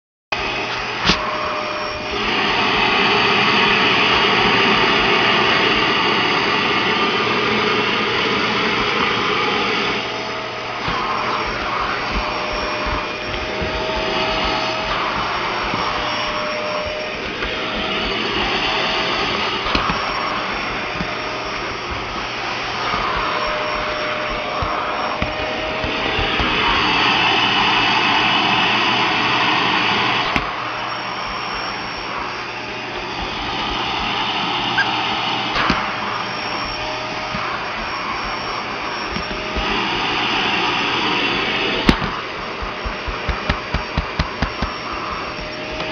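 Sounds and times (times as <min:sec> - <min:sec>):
vacuum cleaner running: 0:00.3 - 0:45.9.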